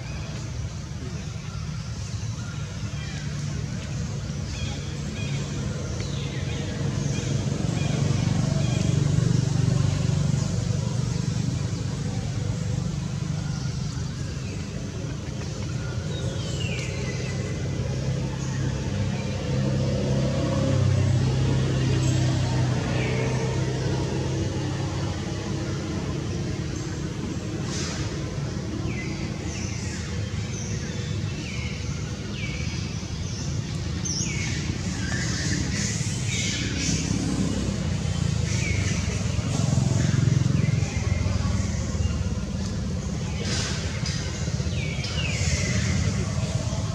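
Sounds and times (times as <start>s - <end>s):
low rumble of passing vehicles: 0.0s - 46.9s.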